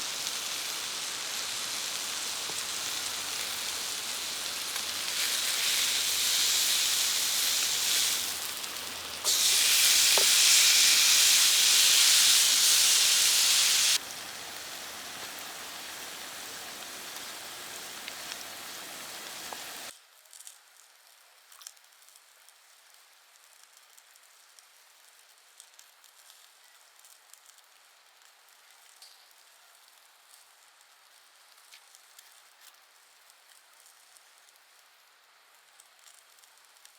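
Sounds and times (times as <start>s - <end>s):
food sizzling in a hot pan: 0.0s - 32.5s
small crackles: 0.0s - 36.9s.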